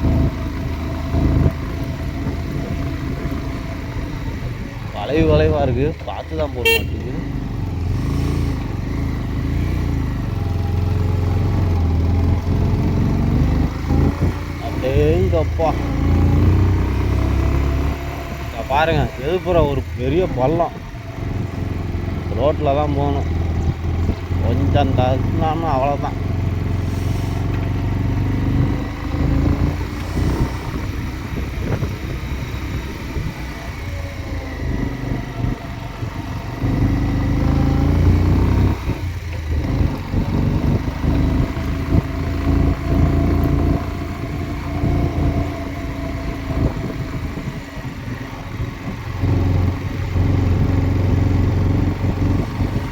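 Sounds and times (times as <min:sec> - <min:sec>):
motorcycle engine under load: 0:00.0 - 0:52.9.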